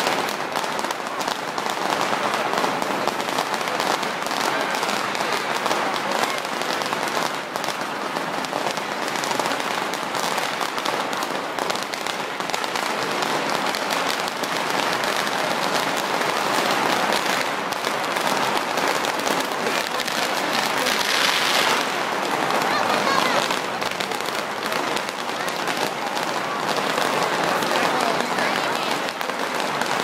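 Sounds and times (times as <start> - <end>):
firecrackers crackling: 0.0 - 30.0.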